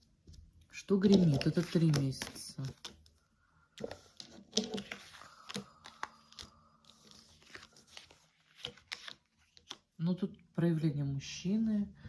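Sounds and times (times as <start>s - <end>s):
cards rustling and snapping: 0.2s - 10.0s.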